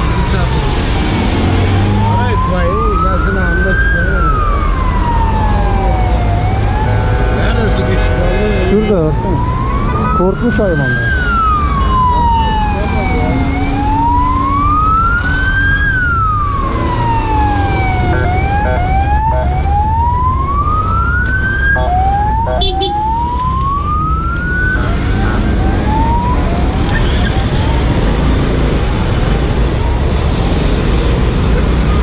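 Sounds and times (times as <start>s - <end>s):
emergency siren wailing: 0.0s - 32.0s
road traffic rumble: 0.0s - 32.0s
siren yelps: 1.7s - 7.3s, 8.9s - 32.0s.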